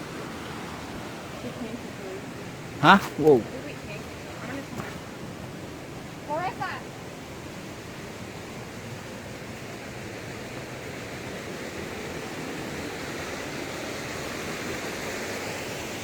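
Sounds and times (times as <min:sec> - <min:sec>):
rushing floodwater: 0:00.0 - 0:16.0.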